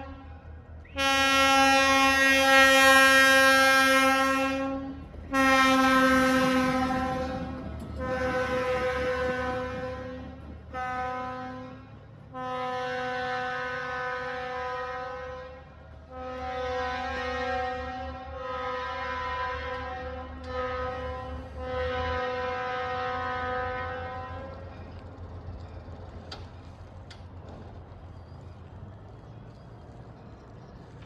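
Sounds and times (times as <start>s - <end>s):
train horn blasts: 0.0s - 25.1s
diesel railcar engine rumble: 0.0s - 31.0s.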